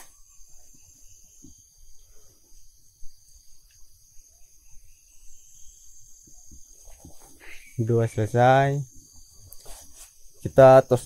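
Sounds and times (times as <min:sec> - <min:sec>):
high-pitched insect chirring: 0:00.0 - 0:11.0.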